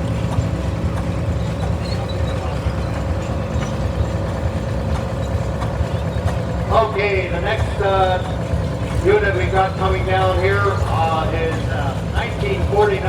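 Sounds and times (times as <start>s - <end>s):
large engine running: 0.0s - 13.0s.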